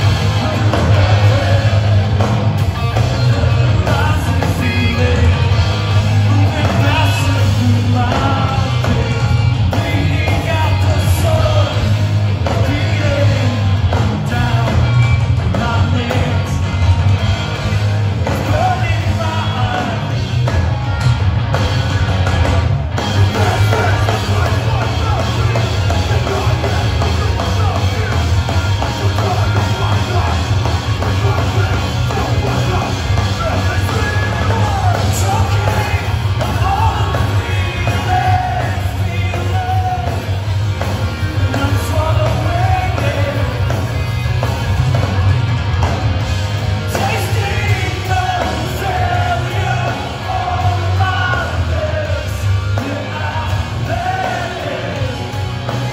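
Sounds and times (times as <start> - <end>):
sung and yelled vocals: 0.0 - 20.5, 22.9 - 45.0, 46.7 - 55.9
bass guitar: 0.0 - 55.9
distorted electric guitars: 0.0 - 55.9
drums: 0.0 - 55.9.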